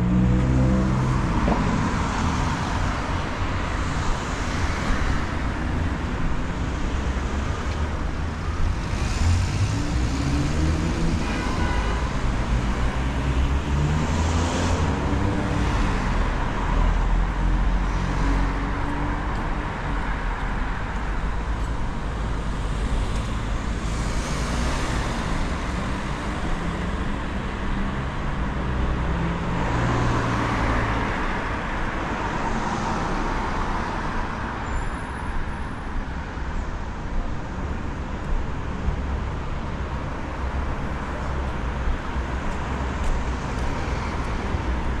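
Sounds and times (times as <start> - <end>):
road noise and engine hum: 0.0 - 45.0
vehicles passing: 0.0 - 45.0.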